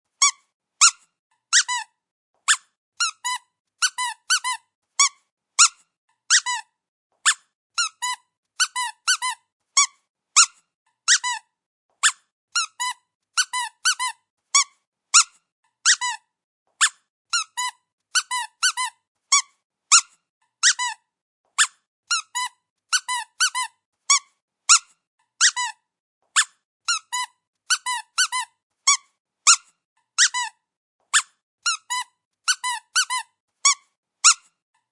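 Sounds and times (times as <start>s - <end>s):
squeaky dog toy squeaking: 0.1s - 34.6s.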